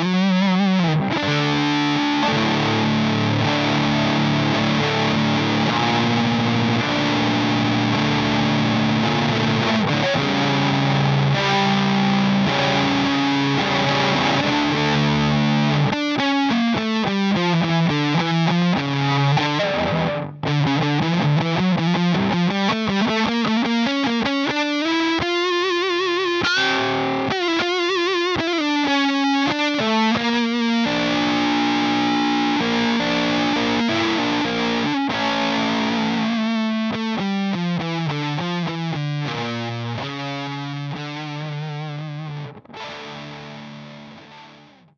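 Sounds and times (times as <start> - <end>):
fuzzed electric guitar: 0.0 - 44.9.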